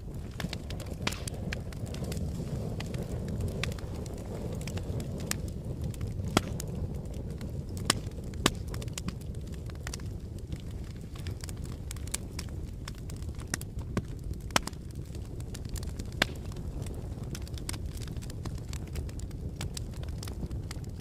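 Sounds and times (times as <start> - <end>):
crackles and pops of fire: 0.0 - 21.0
wood fire burning: 0.0 - 21.0.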